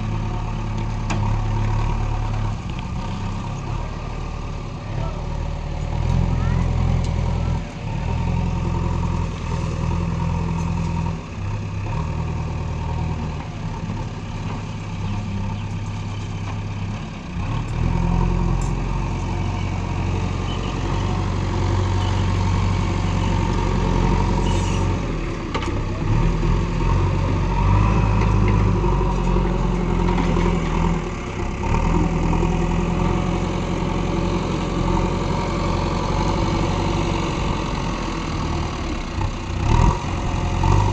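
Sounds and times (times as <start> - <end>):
excavator diesel engine digging: 0.0 - 40.9.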